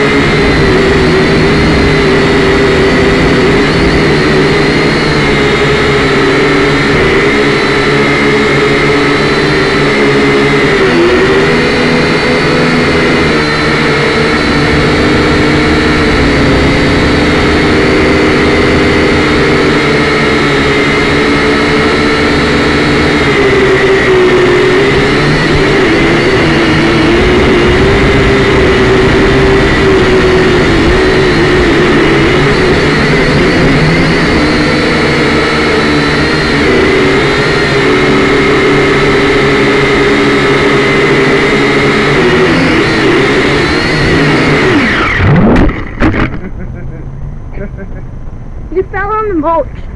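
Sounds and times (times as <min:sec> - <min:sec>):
drone motors whining: 0:00.0 - 0:49.9.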